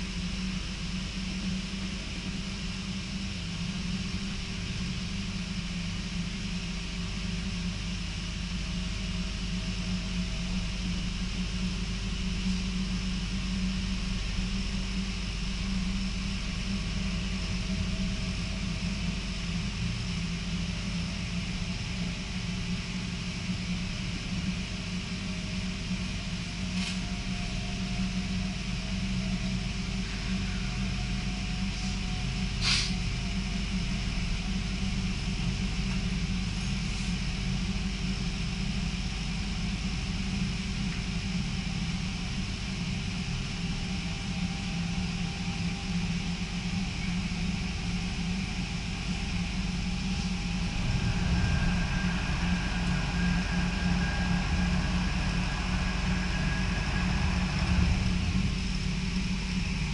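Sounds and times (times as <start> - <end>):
faint rising whine: 0.0 - 59.9
train rumble inside carriage: 0.0 - 59.9.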